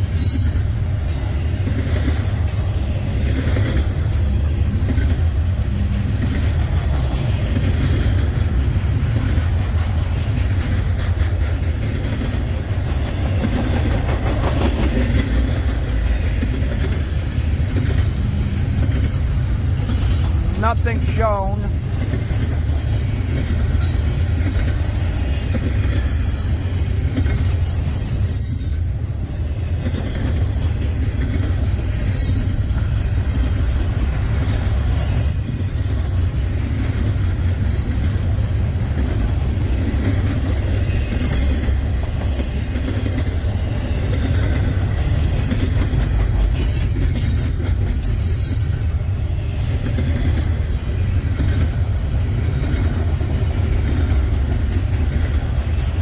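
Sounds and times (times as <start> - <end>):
rail cars rumbling past: 0.0 - 56.0.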